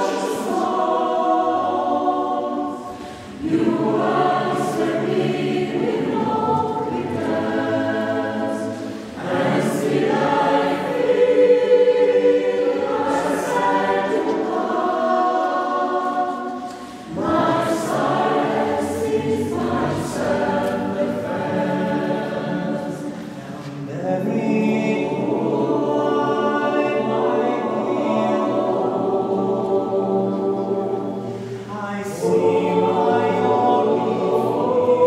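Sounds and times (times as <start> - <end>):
mixed choir singing chords: 0.0 - 35.0.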